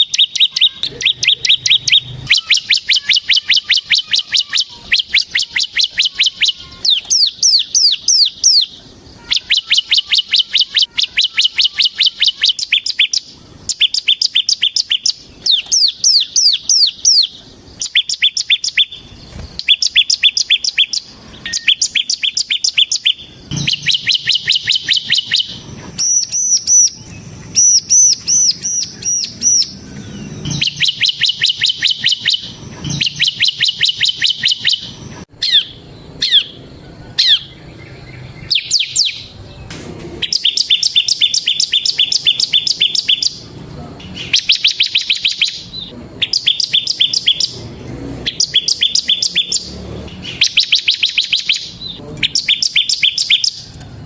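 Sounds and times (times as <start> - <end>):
single sweeping bird notes: 0.0 - 47.6
bird singing rapid trills: 0.0 - 53.7.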